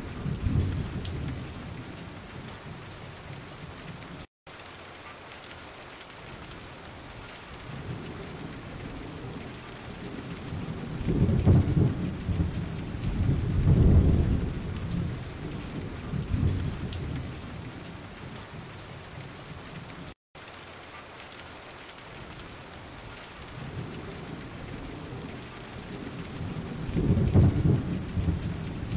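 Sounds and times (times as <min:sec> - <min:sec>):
rain hissing: 0:00.0 - 0:28.9.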